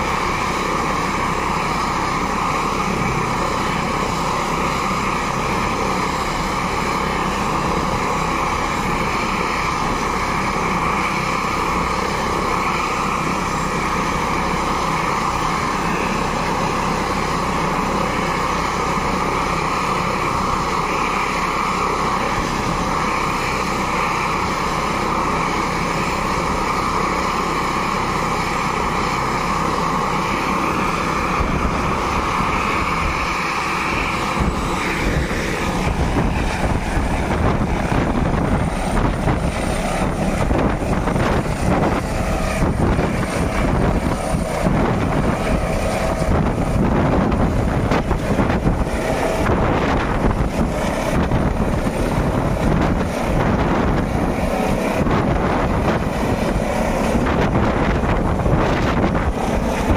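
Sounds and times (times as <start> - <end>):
helicopter rotor chop: 0.0 - 59.9
helicopter turbine whine: 0.0 - 59.9.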